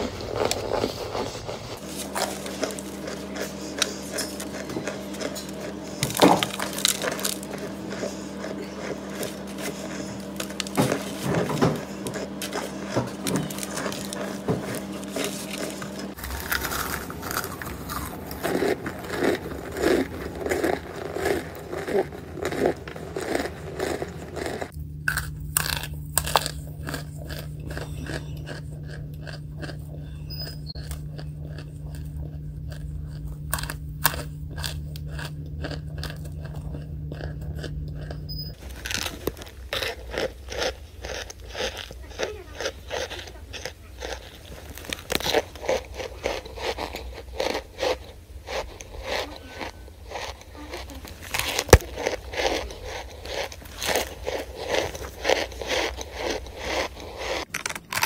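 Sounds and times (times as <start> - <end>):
person chewing crunchy food: 0.0 - 58.0
steady low hum: 0.0 - 58.0.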